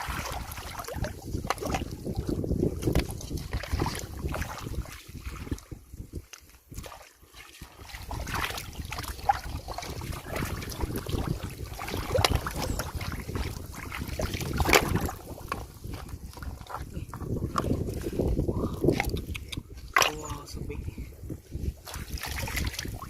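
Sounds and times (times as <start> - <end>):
water splashing and sloshing: 0.0 - 23.0
wind rumbling on microphone: 0.0 - 23.0.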